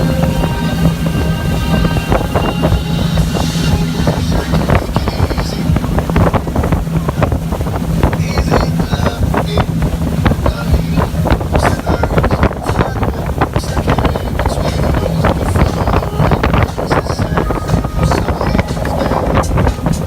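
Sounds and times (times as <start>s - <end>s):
speedboat engine drone: 0.0s - 20.0s
wind buffeting microphone: 0.0s - 20.0s.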